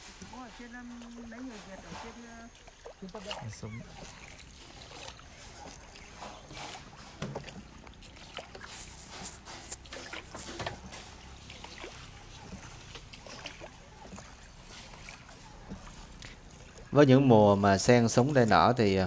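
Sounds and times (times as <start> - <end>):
oars splashing in water: 0.0 - 19.0.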